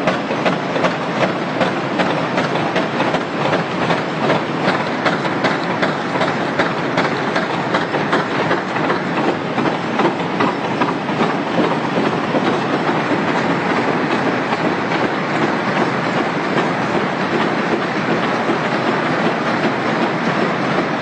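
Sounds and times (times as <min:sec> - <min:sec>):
steady machine noise: 0:00.0 - 0:21.0.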